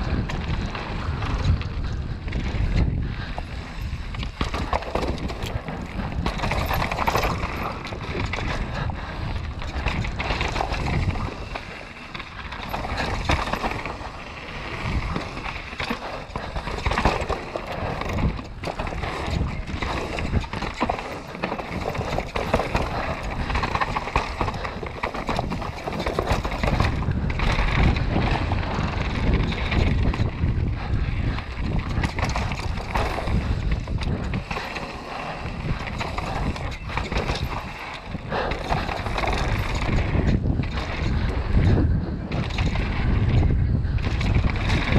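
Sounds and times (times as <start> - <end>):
bike clattering over bumps: 0.0 - 44.9
tyres rolling over loose dirt: 0.0 - 44.9.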